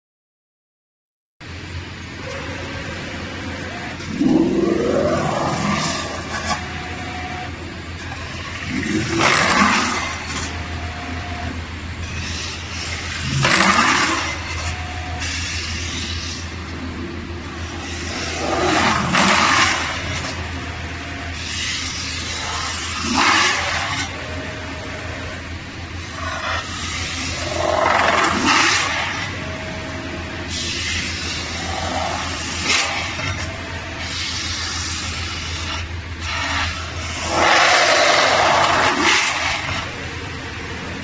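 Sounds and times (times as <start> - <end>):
machine motor hum: 1.4 - 41.0.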